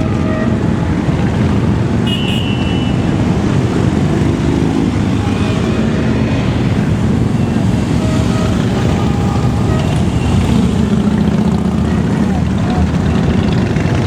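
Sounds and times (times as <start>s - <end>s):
motorcycle engines rumbling: 0.0s - 14.0s.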